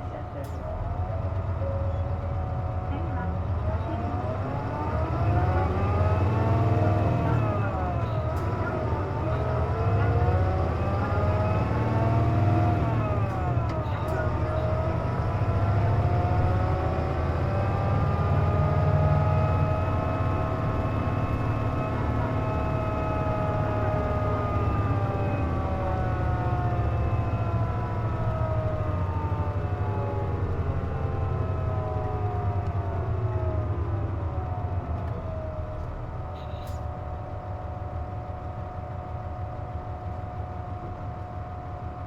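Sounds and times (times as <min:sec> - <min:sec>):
bus engine drone with whine: 0:00.0 - 0:42.0.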